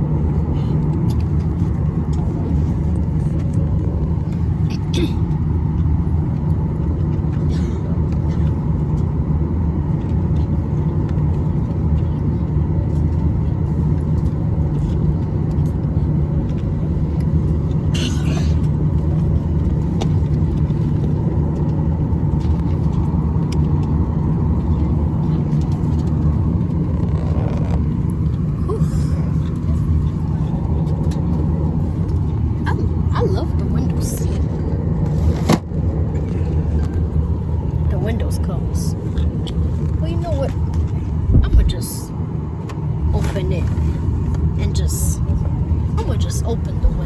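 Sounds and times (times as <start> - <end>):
airliner cabin low rumble: 0.0 - 47.0.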